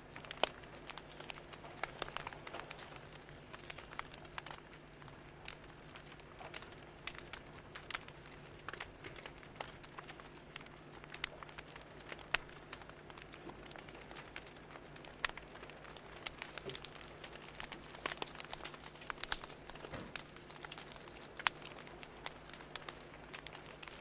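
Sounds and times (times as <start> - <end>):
fire crackling and popping: 0.0 - 24.0
soft steady hiss: 0.0 - 24.0.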